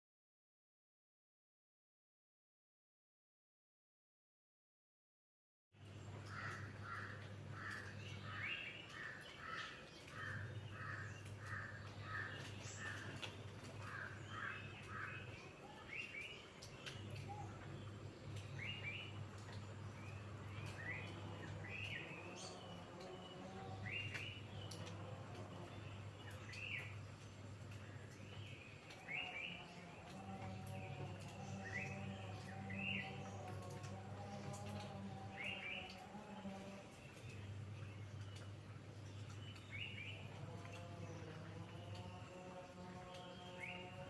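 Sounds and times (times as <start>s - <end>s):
birds chirping: 5.8s - 44.0s
low steady hum: 5.8s - 44.0s.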